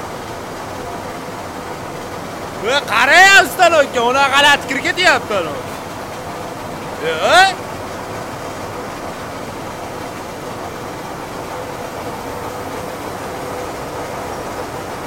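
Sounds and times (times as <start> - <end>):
mill machinery droning: 0.0 - 15.0.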